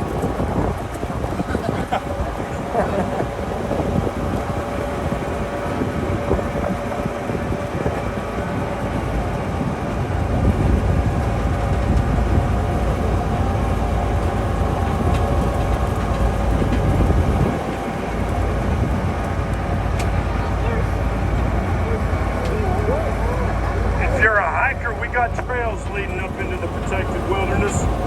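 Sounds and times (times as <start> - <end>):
train rail cars rumbling: 0.0 - 28.0.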